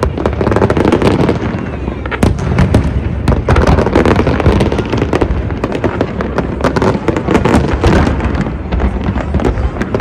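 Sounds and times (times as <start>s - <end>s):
fireworks crackling and banging: 0.0s - 10.0s.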